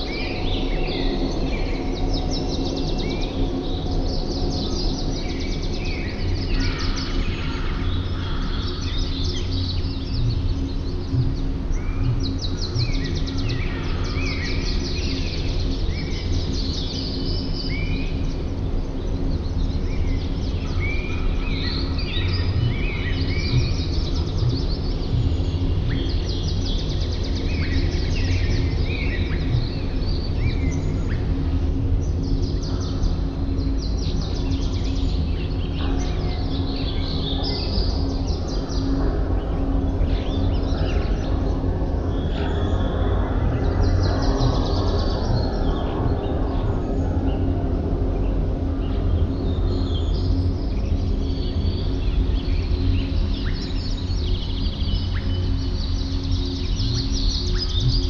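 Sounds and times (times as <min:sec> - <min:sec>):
small birds chirping and singing: 0:00.0 - 0:58.0
steady low rumble: 0:00.0 - 0:58.0.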